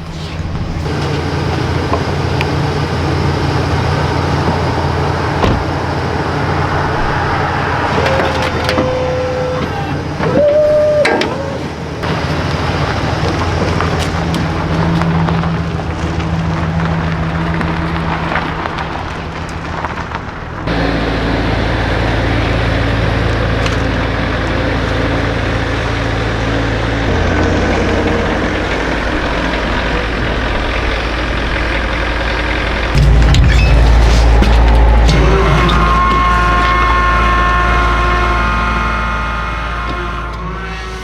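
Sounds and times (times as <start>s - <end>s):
diesel pickup engine running: 0.0s - 41.0s.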